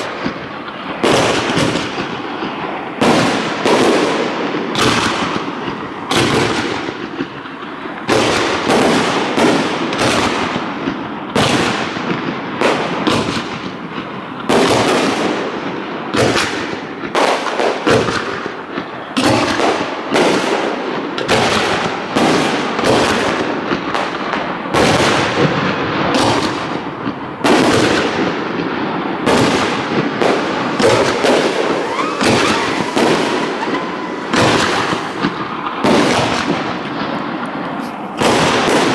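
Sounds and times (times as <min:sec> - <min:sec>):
fireworks bursting: 0:00.0 - 0:38.9
fireworks crackle and rumble: 0:00.0 - 0:38.9.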